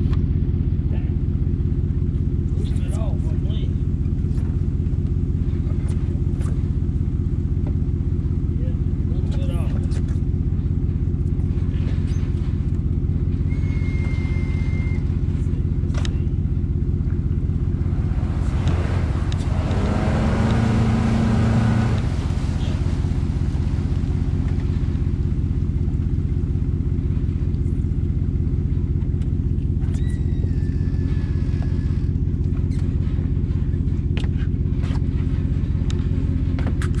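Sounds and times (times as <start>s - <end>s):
pickup truck low rumble: 0.0s - 37.0s.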